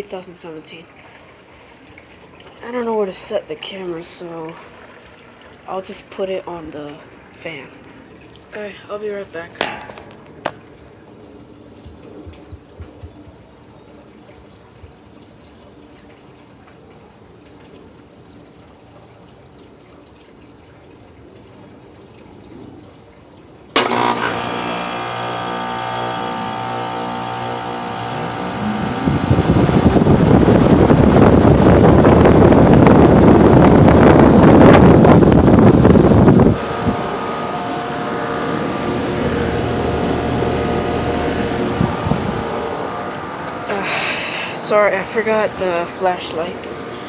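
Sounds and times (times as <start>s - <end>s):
heat pump humming: 0.0s - 47.0s.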